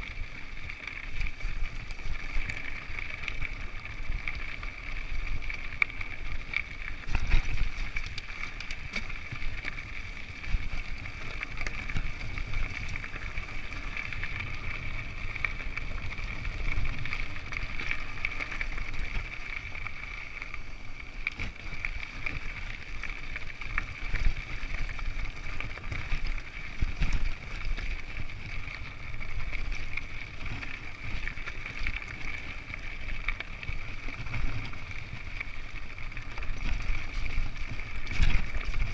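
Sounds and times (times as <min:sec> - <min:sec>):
bike rattling on bumps: 0:00.0 - 0:38.9
tyres crunching over gravel: 0:00.0 - 0:38.9
wind rumbling on microphone: 0:00.0 - 0:38.9.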